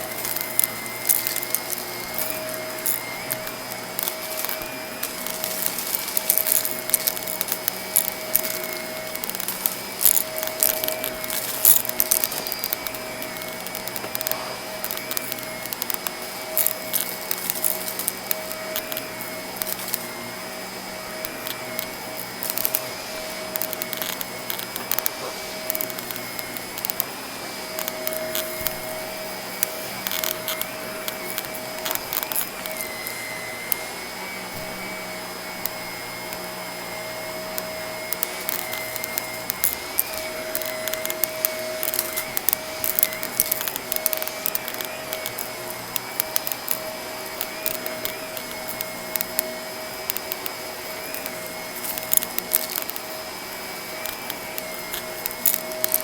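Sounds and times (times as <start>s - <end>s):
debris crackling in vacuum: 0.0s - 56.0s
vacuum cleaner running: 0.0s - 56.0s.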